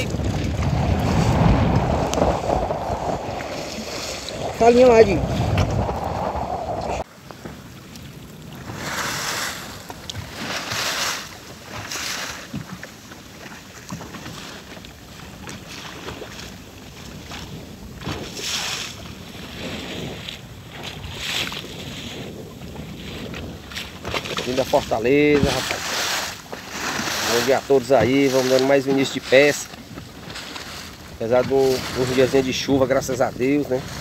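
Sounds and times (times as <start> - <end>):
sea water splashing against hull: 0.0 - 34.0.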